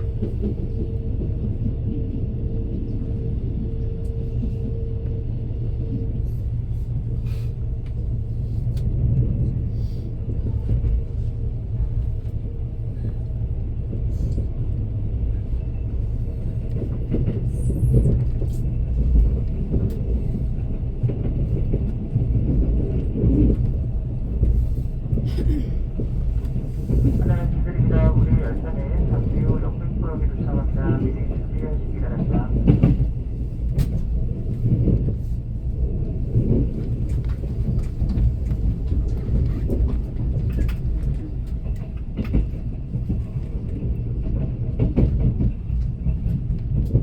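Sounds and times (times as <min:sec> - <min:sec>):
train rumble: 0:00.0 - 0:47.0.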